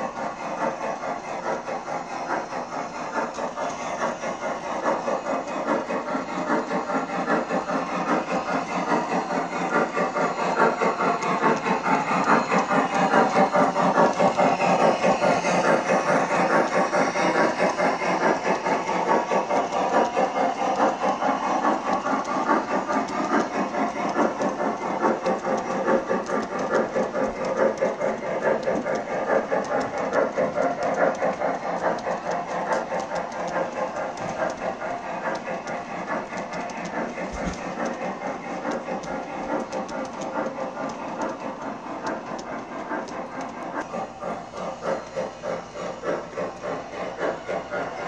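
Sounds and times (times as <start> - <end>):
model train cars rumbling on track: 0.0 - 48.0.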